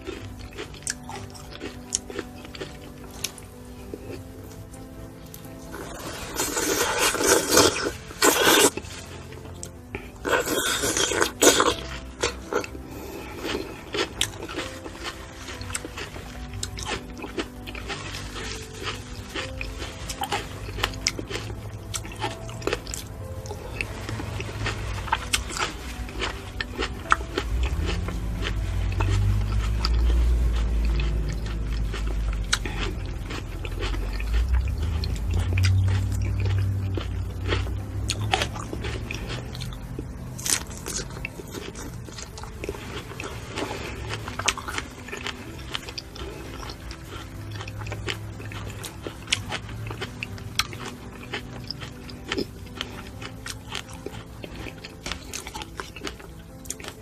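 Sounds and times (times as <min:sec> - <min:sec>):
chewing juicy fruit: 0:00.0 - 0:57.0.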